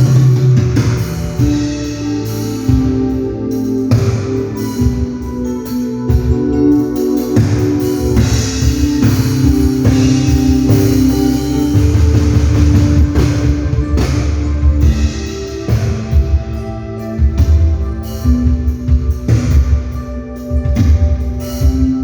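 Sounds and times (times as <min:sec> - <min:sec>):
bass notes: 0:00.0 - 0:22.0
drum kit: 0:00.0 - 0:22.0
guitar notes: 0:00.0 - 0:22.0.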